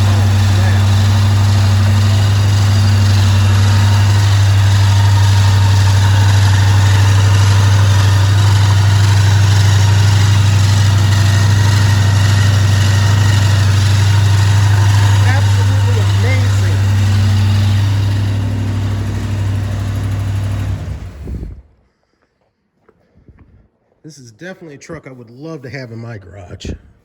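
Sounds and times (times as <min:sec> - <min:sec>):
car engine idling: 0:00.0 - 0:21.6.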